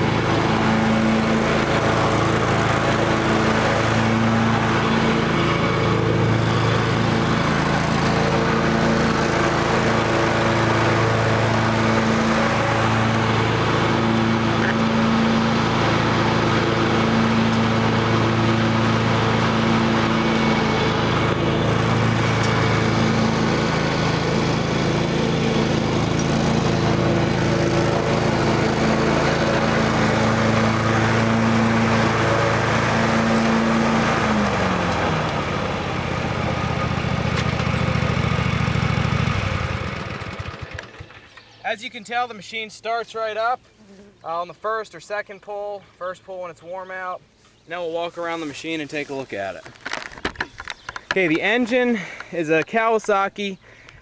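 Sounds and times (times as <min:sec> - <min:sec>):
lawn mower engine humming: 0:00.0 - 0:42.0, 0:45.4 - 0:54.0.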